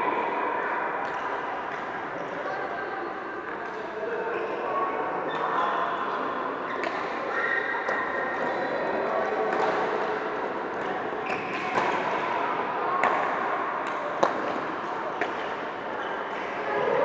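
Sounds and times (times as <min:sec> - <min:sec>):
sports hall noise: 0:00.0 - 0:17.0.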